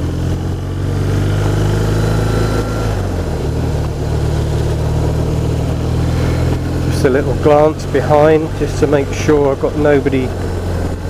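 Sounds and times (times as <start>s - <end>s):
motorcycle engine cruising: 0.0s - 11.0s
wind buffeting microphone: 0.0s - 11.0s.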